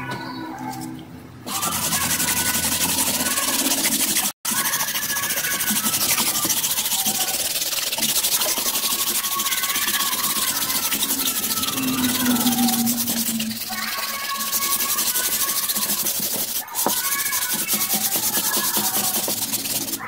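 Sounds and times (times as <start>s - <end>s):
palm sander sanding wood: 1.5s - 20.0s.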